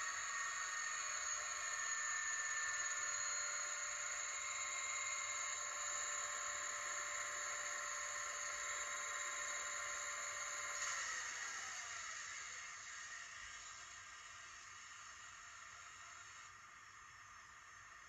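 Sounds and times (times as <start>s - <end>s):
steady hiss with held tones: 0.0s - 18.0s.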